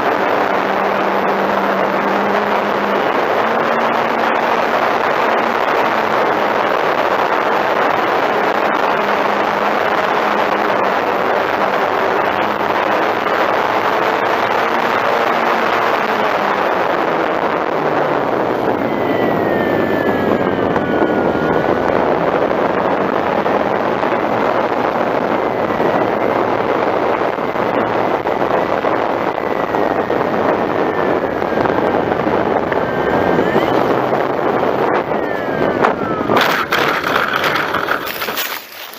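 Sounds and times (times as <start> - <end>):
electric motor and propeller whine: 0.0 - 38.9
wind rushing over microphone: 0.0 - 38.9.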